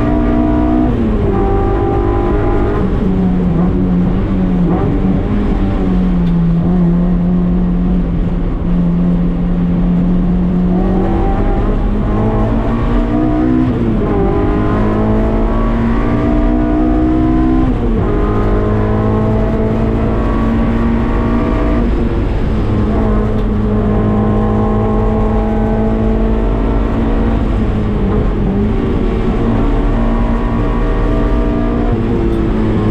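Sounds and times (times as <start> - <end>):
race car engine revving: 0.0 - 32.9.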